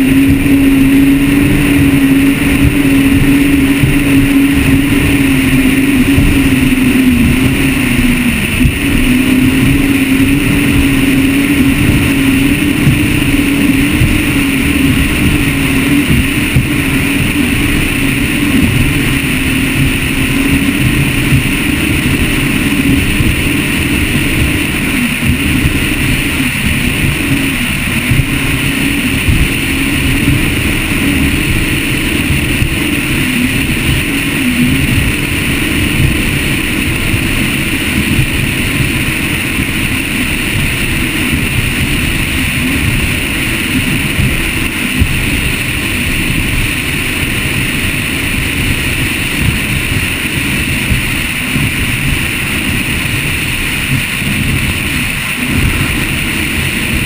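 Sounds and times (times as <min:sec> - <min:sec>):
boat engine drone: 0:00.0 - 0:57.0
rushing water: 0:00.0 - 0:57.0
wind buffeting: 0:00.0 - 0:57.0.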